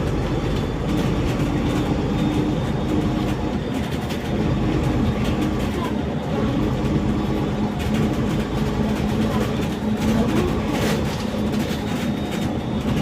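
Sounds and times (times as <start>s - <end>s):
bus engine hum: 0.0s - 13.0s
road noise: 0.0s - 13.0s.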